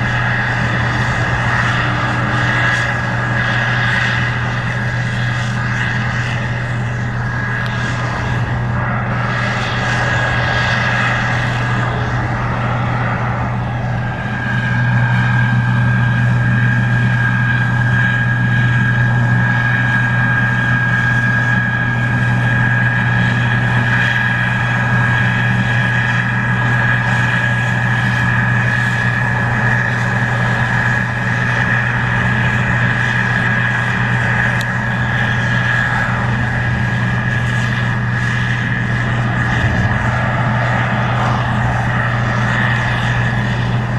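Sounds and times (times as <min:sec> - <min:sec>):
combine harvester diesel drone: 0:00.0 - 0:43.9
steady high whine: 0:00.0 - 0:43.9.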